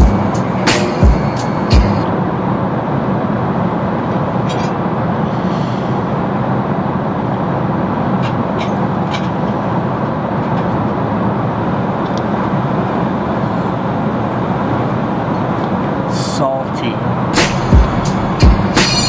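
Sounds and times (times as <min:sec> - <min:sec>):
airplane cabin rushing noise: 0:00.0 - 0:19.0.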